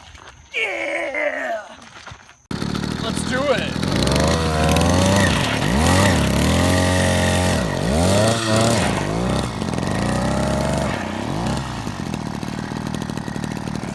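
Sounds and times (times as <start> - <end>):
small motorbike engine revving: 2.5 - 13.9.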